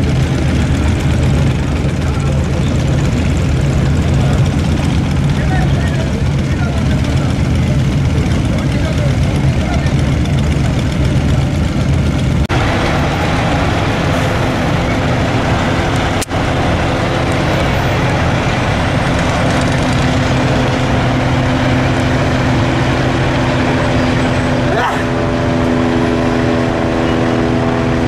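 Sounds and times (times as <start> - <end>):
motorcycles idling: 0.0 - 28.0
truck engine idling: 0.0 - 28.0.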